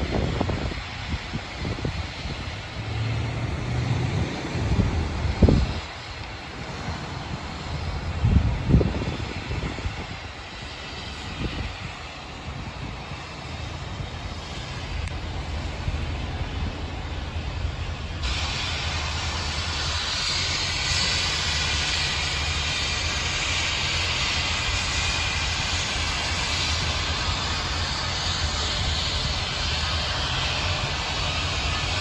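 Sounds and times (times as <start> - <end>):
steady hiss of steam: 0.0 - 32.0
steam locomotive rumble: 0.0 - 32.0.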